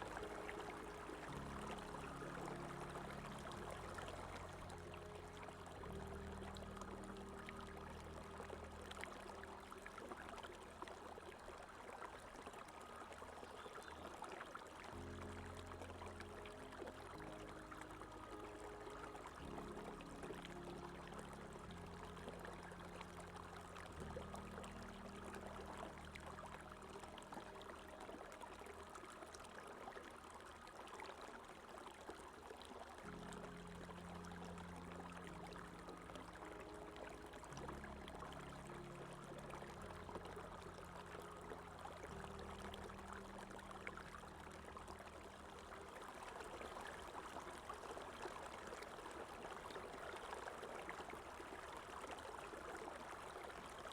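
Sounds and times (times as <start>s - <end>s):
soft music with low chords: 0.0s - 53.9s
stream running: 0.0s - 53.9s.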